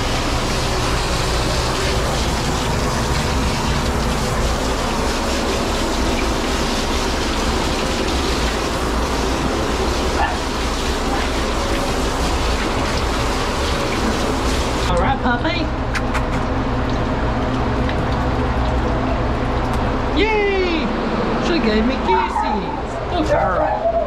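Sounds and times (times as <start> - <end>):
water rushing from sprayer: 0.0 - 22.3.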